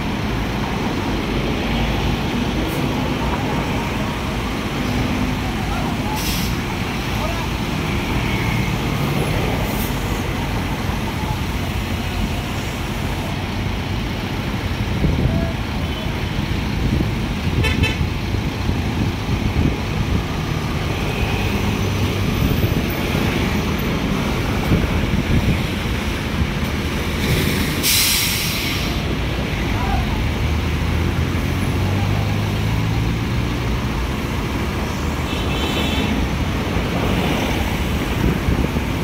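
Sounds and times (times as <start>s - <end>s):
heavy diesel engines running: 0.0s - 39.0s.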